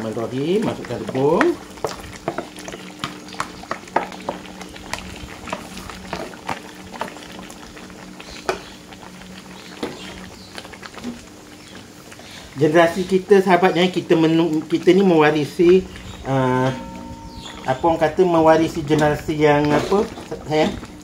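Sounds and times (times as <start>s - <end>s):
curry bubbling in a wok: 0.0s - 21.0s
steady low hum: 0.1s - 21.0s.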